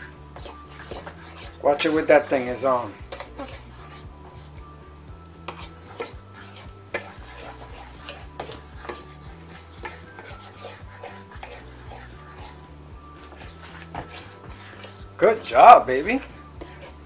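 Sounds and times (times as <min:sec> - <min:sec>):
fork stirring batter in bowl: 0:00.0 - 0:17.0.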